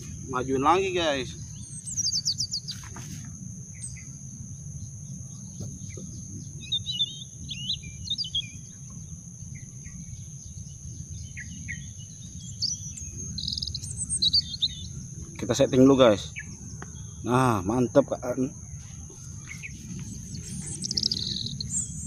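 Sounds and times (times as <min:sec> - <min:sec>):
high-pitched insect drone: 0:00.0 - 0:22.0
low background rumble: 0:00.0 - 0:22.0
small birds chirping: 0:00.0 - 0:22.0.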